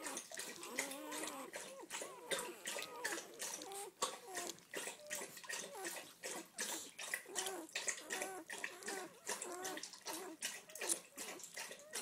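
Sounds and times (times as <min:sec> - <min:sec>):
puppies squeaking and whimpering: 0:00.0 - 0:12.0
rustling of squirming puppies: 0:00.0 - 0:12.0
wet smacking: 0:00.0 - 0:12.0.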